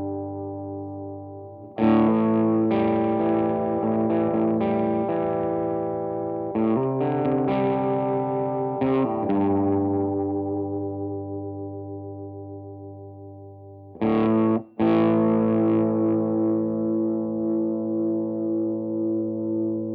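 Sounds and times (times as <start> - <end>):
electric guitar strummed chords: 0.0 - 19.9.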